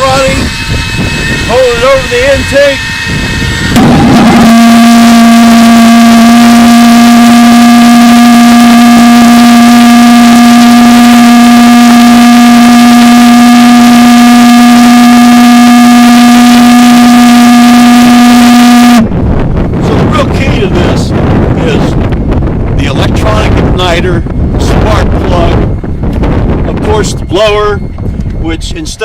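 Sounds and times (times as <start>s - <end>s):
pulse jet engine buzzing drone: 0.0s - 29.0s.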